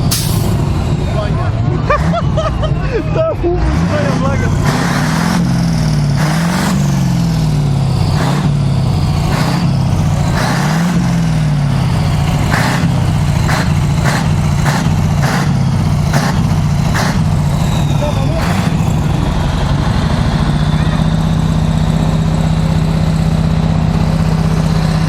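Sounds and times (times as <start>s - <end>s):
truck diesel engine revving: 0.0s - 25.0s.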